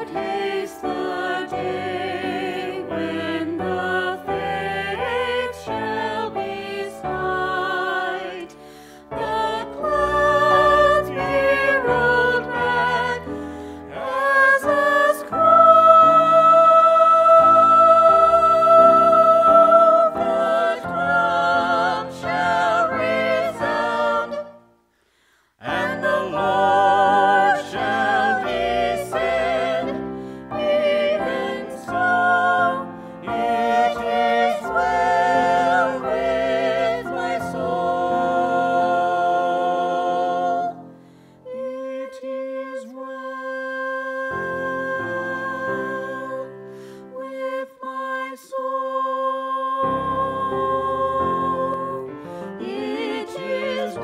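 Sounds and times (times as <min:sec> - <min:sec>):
people singing a hymn in harmony: 0:00.0 - 0:24.7, 0:25.5 - 0:54.0.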